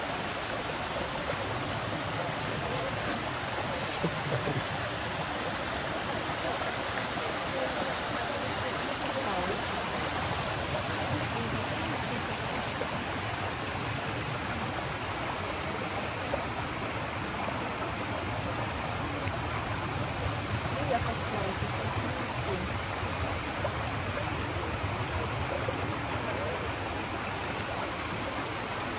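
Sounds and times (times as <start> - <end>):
fountain water rushing: 0.0 - 28.9.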